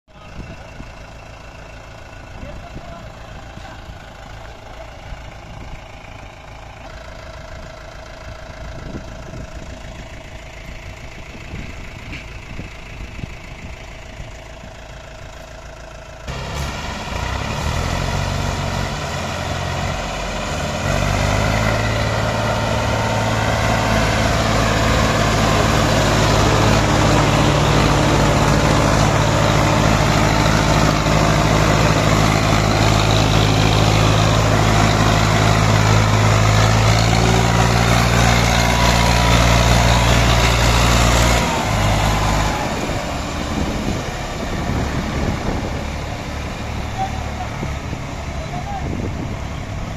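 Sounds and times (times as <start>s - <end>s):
diesel tractor engines under load: 0.0s - 49.9s.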